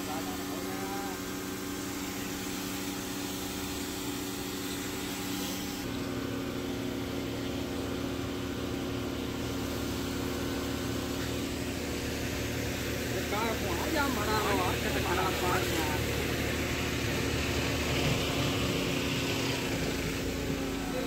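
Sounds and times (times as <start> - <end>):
engine running with even hum: 0.0 - 21.0.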